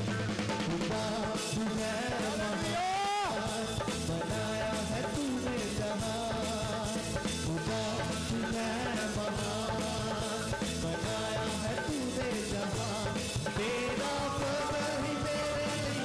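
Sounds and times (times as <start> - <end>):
sustained instrumental accompaniment: 0.0 - 16.0
men singing worship song: 0.9 - 16.0.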